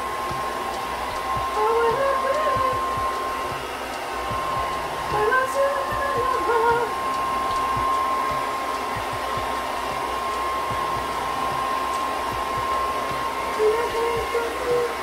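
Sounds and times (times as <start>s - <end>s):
pet hair dryer whining: 0.0s - 15.0s.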